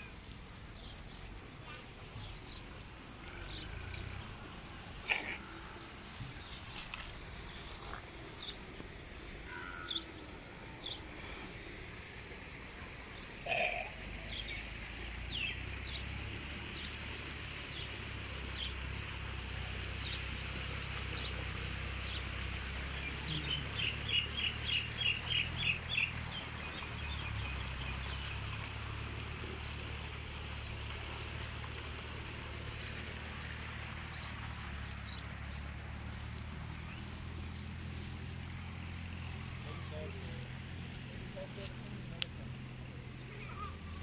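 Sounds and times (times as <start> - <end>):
small birds chirping: 0.0 - 11.6, 13.1 - 44.0.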